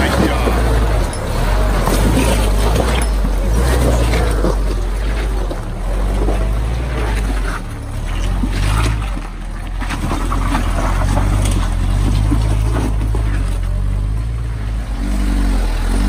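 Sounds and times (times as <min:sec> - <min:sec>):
jeep engine running low: 0:00.0 - 0:16.0
tyres crackling over rock and mud: 0:00.0 - 0:16.0.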